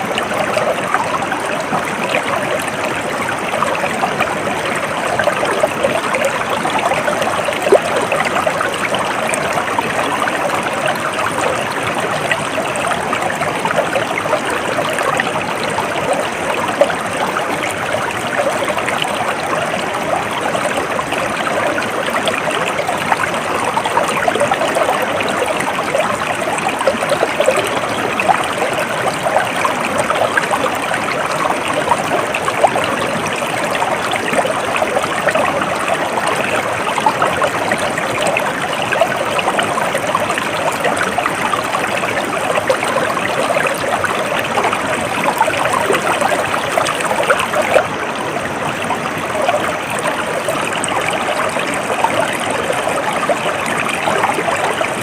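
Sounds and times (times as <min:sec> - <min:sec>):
stream flowing and trickling: 0:00.0 - 0:55.0.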